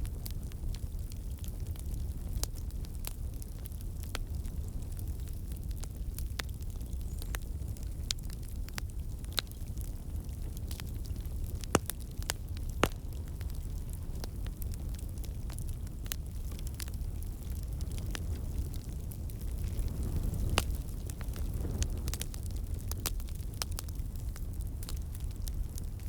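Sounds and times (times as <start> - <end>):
sharp snaps of burning wood: 0.0 - 26.0
wood fire rumbling: 0.0 - 26.0.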